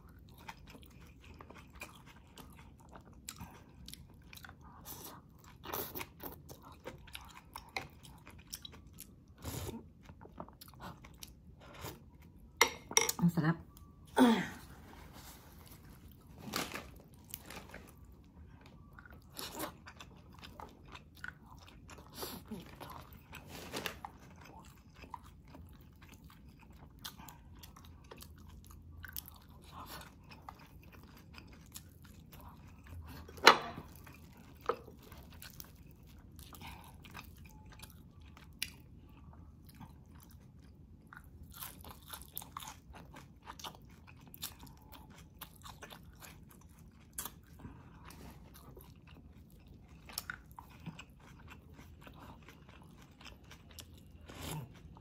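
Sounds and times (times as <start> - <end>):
chewing and crunching fried fish: 0.0 - 12.6, 15.2 - 55.0.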